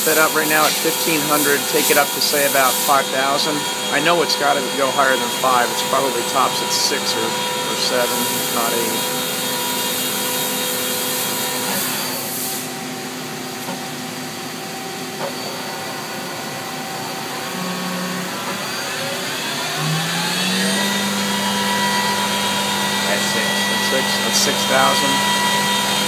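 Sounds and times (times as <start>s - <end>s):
machine spindle whine: 0.0s - 26.0s.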